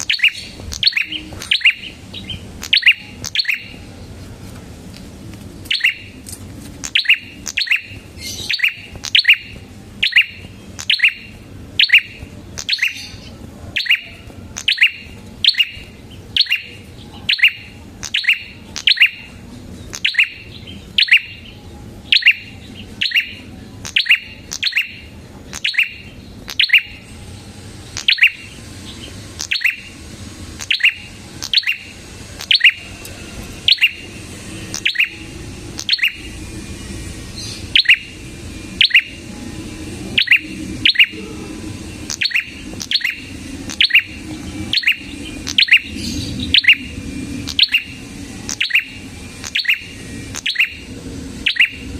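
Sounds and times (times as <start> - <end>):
songbird chirping: 0.0 - 51.9.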